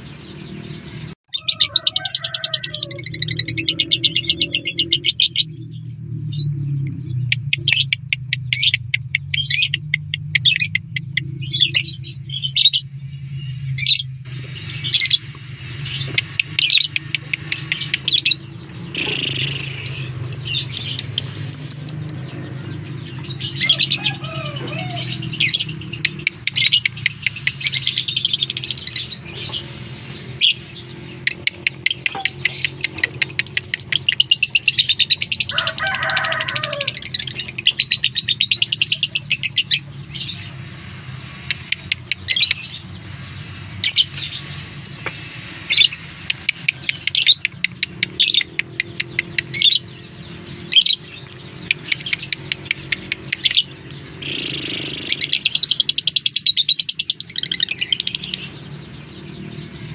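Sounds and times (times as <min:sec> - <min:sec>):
lovebirds chirping shrilly: 0:00.0 - 0:59.9.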